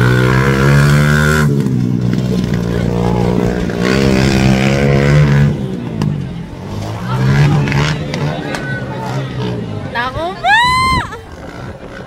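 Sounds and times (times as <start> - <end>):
motorcycle engine revving: 0.0 - 10.3, 11.2 - 12.0.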